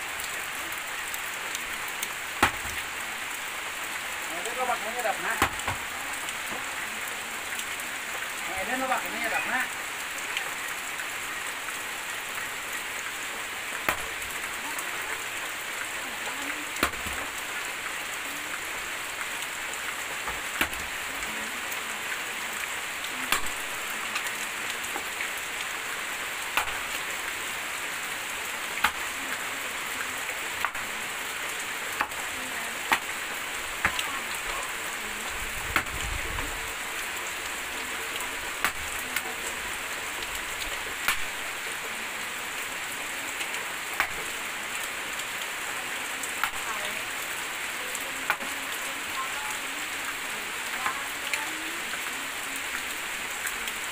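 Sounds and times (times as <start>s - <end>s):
steady rain: 0.0s - 53.9s.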